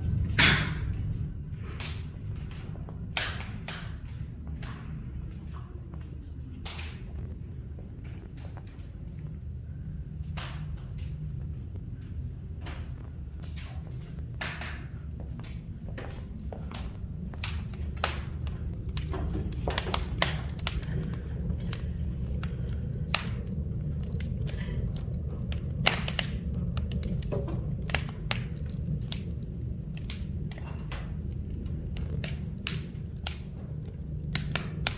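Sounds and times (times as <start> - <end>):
low fire rumble: 0.0 - 34.9
wood fire popping and crackling: 0.0 - 34.9.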